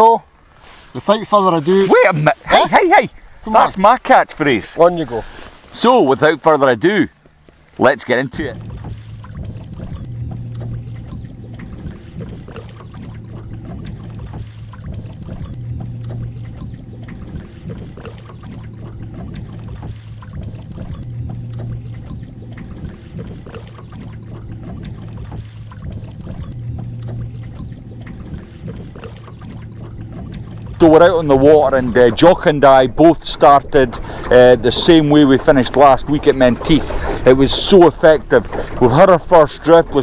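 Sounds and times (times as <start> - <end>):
water lapping against hull: 0.0 - 40.0
electric outboard motor humming: 5.8 - 40.0.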